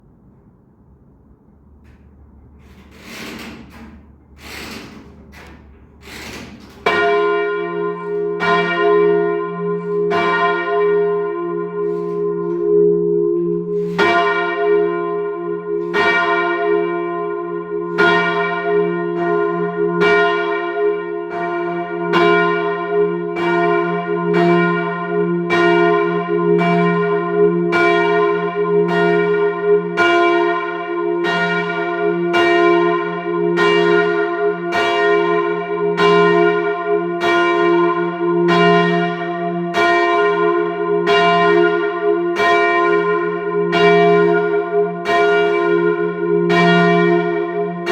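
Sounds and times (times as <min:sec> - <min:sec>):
church bell ringing: 0:03.9 - 0:47.9.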